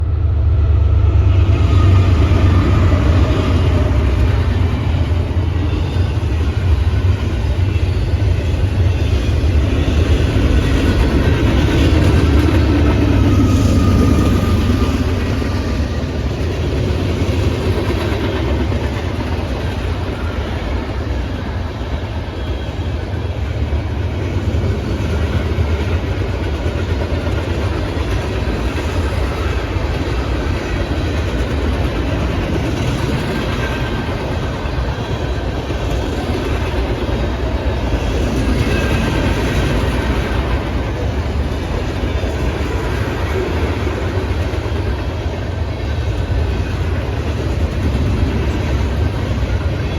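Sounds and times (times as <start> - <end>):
train running on track: 0.0 - 49.9.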